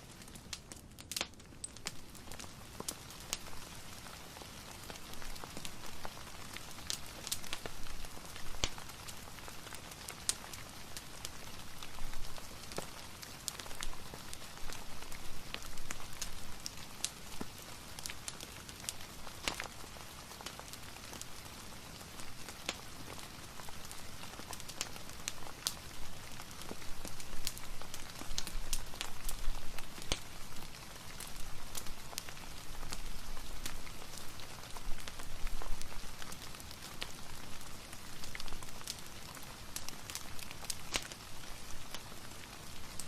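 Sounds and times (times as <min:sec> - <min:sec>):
steady rain: 0:00.0 - 0:43.0
wood fire crackling: 0:00.0 - 0:43.0.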